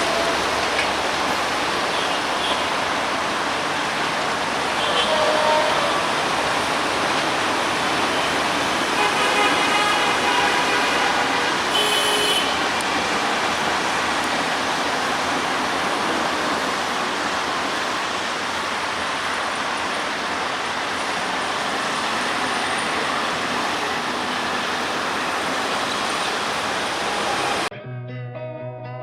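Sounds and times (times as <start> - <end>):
train wheels rolling on rails: 0.0 - 9.2, 12.6 - 27.7.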